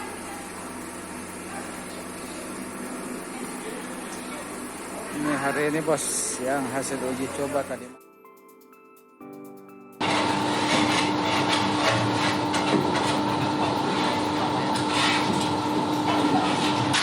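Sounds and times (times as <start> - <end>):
factory machinery humming and rattling: 0.0 - 7.8, 10.0 - 17.0
faint music: 0.0 - 17.0.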